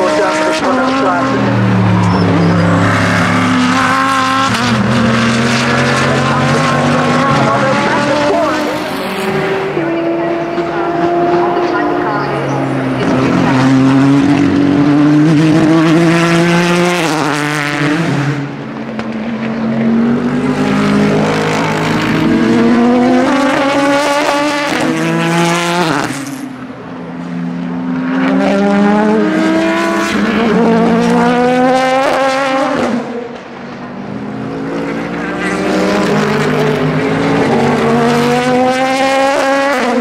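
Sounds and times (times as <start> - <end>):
race cars accelerating past: 0.0 - 40.0.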